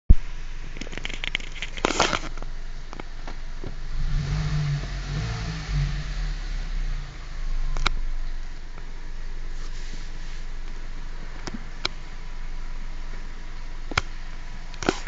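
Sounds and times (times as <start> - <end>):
low hum with hiss: 0.1 - 15.0
car engine idling: 2.4 - 15.0.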